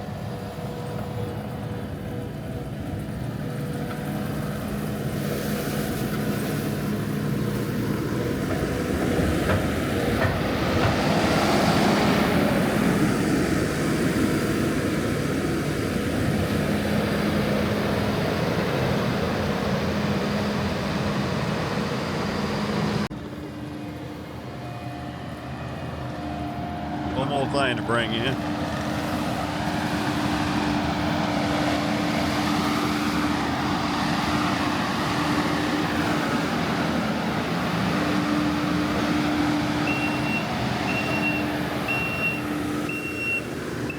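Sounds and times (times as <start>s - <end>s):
farm vehicle engine running: 0.0s - 43.9s.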